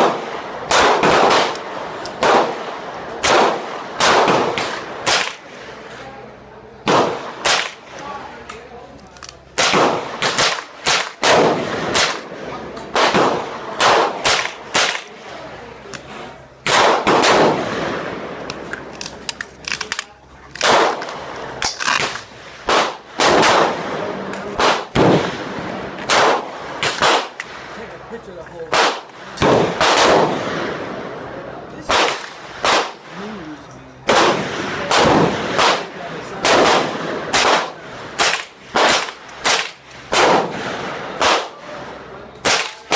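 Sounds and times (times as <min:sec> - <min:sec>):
echoing gunshots: 0:00.0 - 0:05.8, 0:06.8 - 0:08.0, 0:09.5 - 0:15.3, 0:16.6 - 0:18.9, 0:20.6 - 0:27.8, 0:28.7 - 0:31.2, 0:31.8 - 0:33.2, 0:34.1 - 0:41.8, 0:42.4 - 0:42.9.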